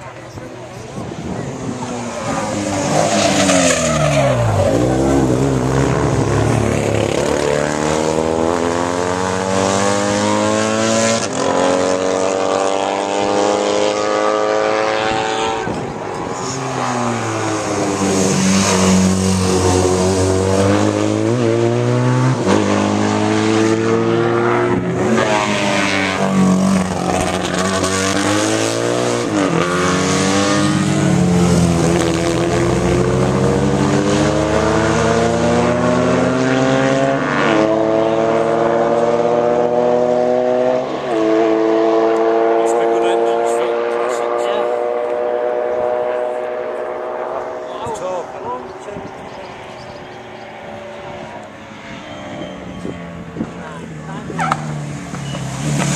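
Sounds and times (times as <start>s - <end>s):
racing engines revving: 0.0s - 55.9s.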